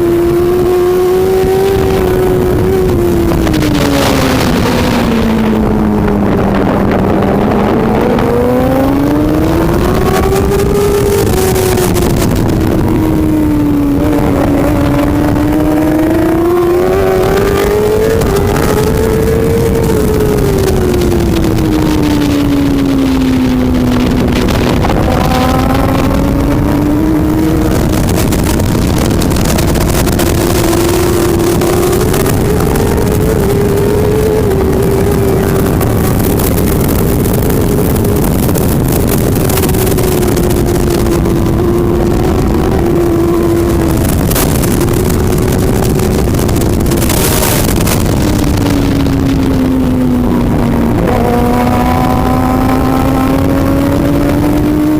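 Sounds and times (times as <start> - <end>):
superbike engine: 0.0 - 54.9.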